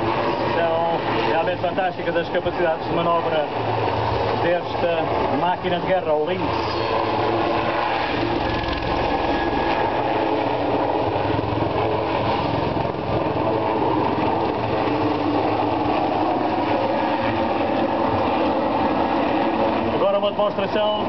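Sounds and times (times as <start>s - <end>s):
helicopter engine noise: 0.0s - 21.0s
helicopter rotor beating: 0.0s - 21.0s.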